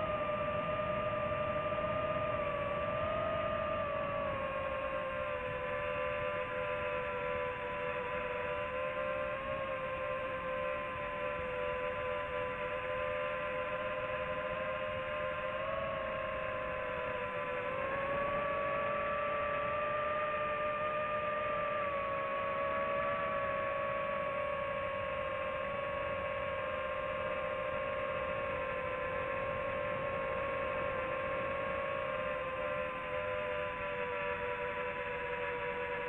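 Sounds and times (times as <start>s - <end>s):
drone electric motors whining: 0.0s - 36.0s.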